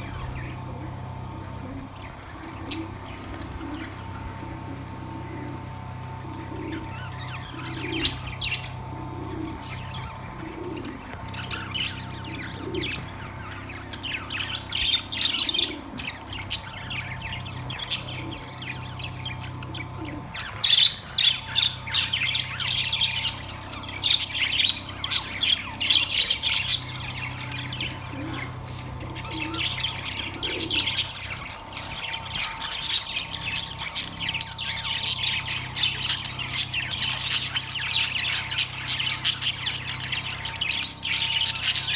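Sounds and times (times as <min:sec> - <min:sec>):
budgerigars chattering: 0:00.0 - 0:41.9
steady low hum: 0:00.0 - 0:41.9.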